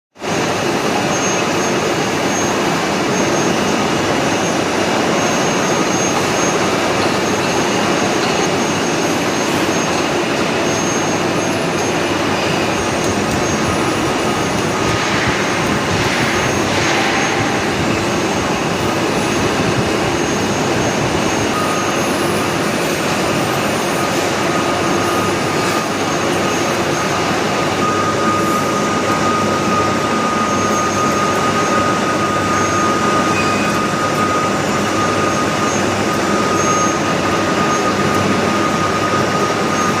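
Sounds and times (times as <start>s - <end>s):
thin steady whine: 0.2s - 40.0s
metalworking lathe running: 0.3s - 40.0s.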